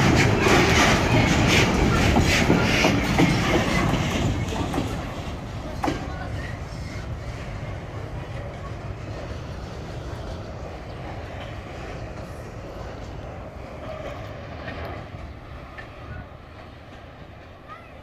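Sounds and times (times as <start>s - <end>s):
freight train rumbling on rails: 0.0s - 18.0s.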